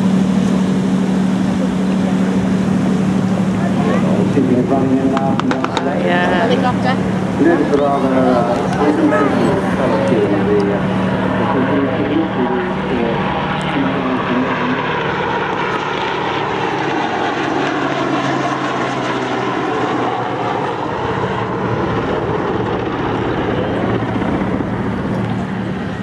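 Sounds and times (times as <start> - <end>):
helicopter flying past: 0.0 - 26.0.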